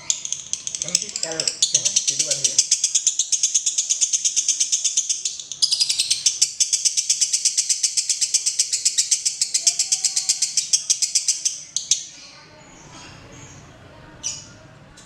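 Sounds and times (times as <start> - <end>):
lovebird rapid chatter: 0.0 - 12.4.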